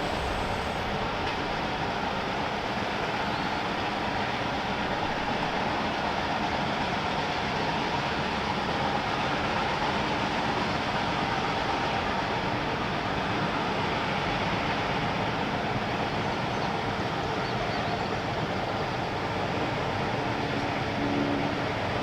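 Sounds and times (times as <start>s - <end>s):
steam train running: 0.0s - 22.0s.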